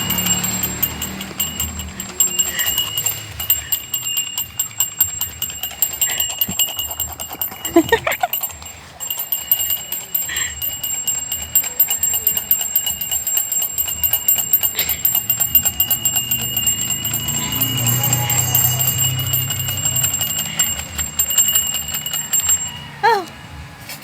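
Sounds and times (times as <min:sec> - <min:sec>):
alarm clock bell ringing: 0:00.0 - 0:23.6.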